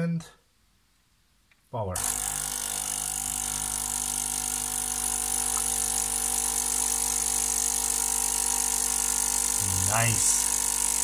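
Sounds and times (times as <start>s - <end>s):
coffee machine pump humming: 2.0s - 11.0s.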